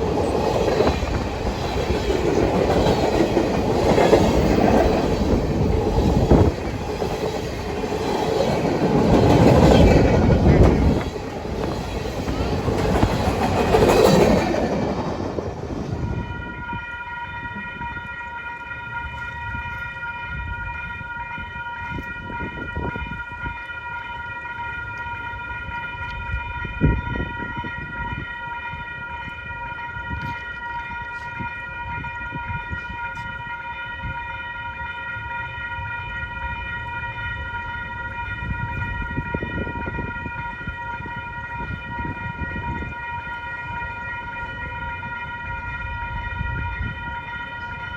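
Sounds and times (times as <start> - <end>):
train rumble: 0.0 - 47.9.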